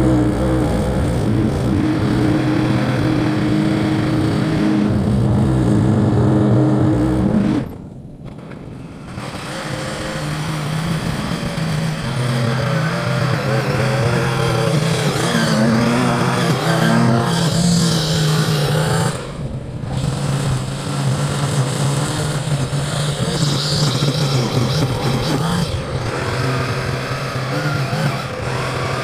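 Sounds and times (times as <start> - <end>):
small gasoline engine running: 0.0 - 29.0.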